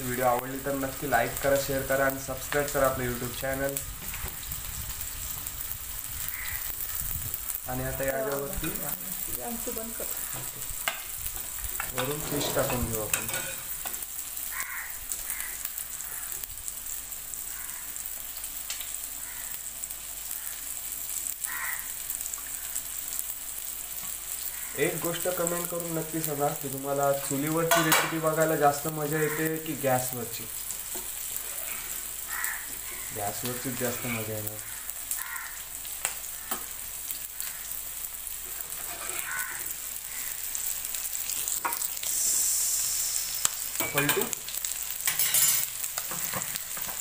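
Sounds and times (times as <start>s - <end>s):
fish sizzling in oil: 0.0s - 47.0s.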